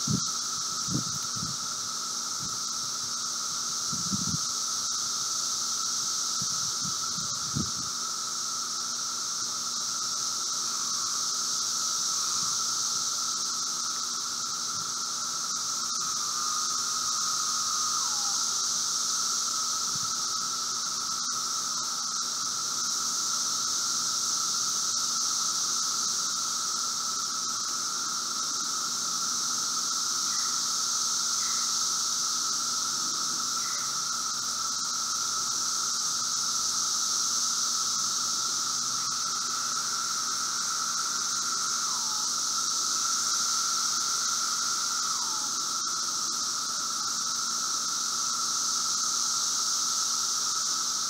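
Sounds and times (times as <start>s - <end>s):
cicadas droning: 0.0s - 51.0s
nearby cicada call slurring down: 0.0s - 51.0s.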